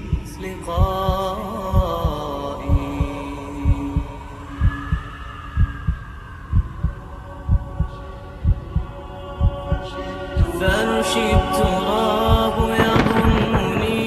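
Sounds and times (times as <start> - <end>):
held hum: 0.0 - 14.0
heartbeat thumps: 0.1 - 5.0, 5.6 - 10.8, 12.3 - 14.0.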